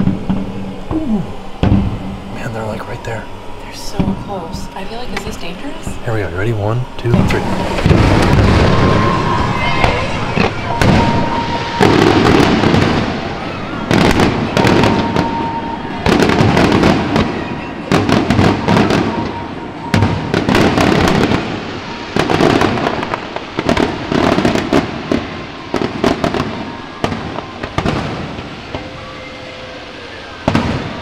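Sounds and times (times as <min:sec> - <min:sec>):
fireworks bangs echoing: 0:00.0 - 0:31.0
fireworks crackling: 0:00.0 - 0:31.0.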